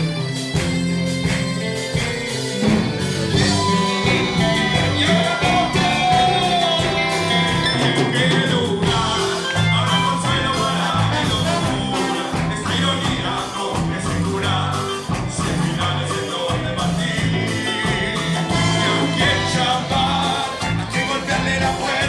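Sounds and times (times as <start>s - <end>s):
congas: 0.0s - 22.0s
drum kit: 0.0s - 22.0s
guitar: 0.0s - 22.0s
person singing: 2.6s - 22.0s.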